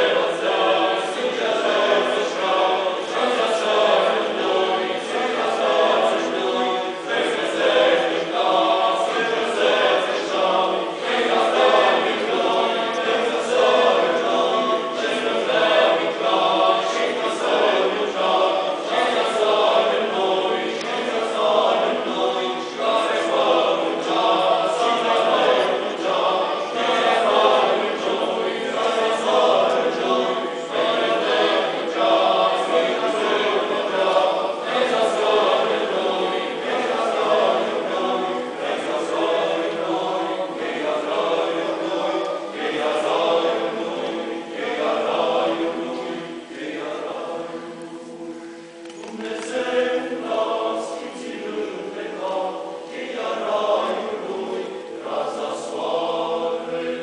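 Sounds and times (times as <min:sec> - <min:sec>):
choir singing a cappella: 0:00.0 - 0:57.0.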